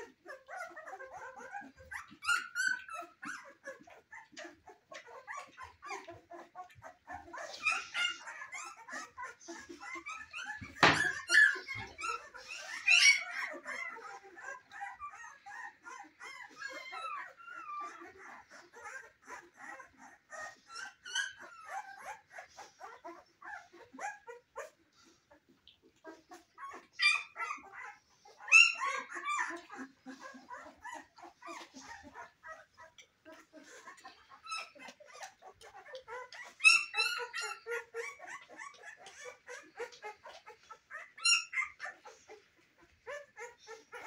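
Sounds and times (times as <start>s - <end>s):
puppy yelps: 0.0s - 24.8s, 26.0s - 44.0s
puppies whimpering and squeaking: 0.0s - 44.0s.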